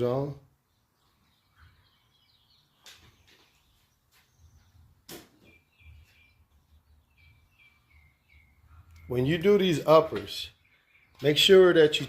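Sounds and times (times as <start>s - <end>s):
faint bird chirps: 0.6s - 11.6s.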